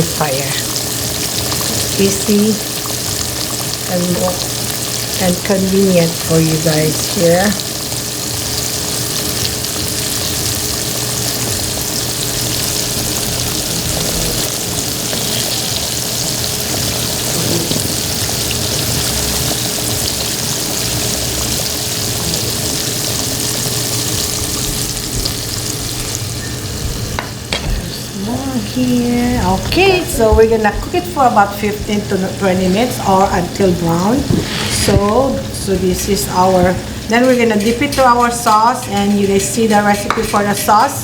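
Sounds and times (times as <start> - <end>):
chicken deep-frying in oil: 0.0 - 41.0.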